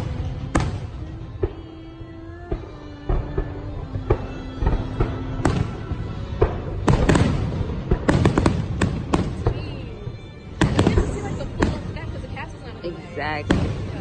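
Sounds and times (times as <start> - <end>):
fireworks bangs: 0.0 - 14.0
music playing: 0.0 - 14.0.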